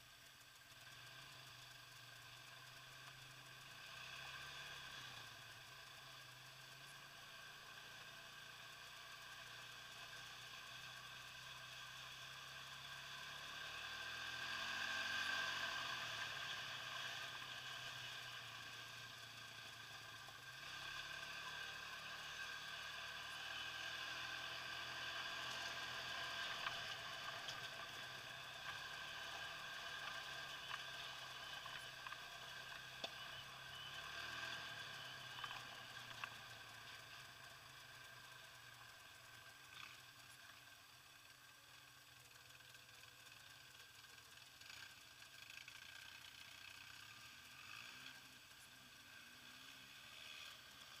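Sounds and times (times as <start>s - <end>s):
quad bike engine: 0.0s - 51.0s.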